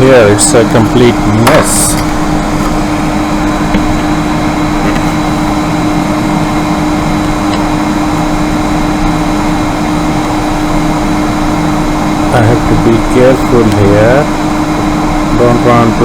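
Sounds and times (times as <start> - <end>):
electric blower fan running: 0.0 - 16.0.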